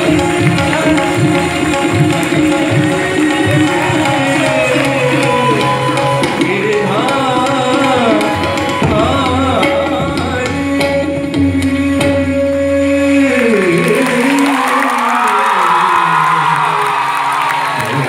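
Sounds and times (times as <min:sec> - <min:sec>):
person singing: 0:00.0 - 0:17.0
tabla: 0:00.0 - 0:18.0.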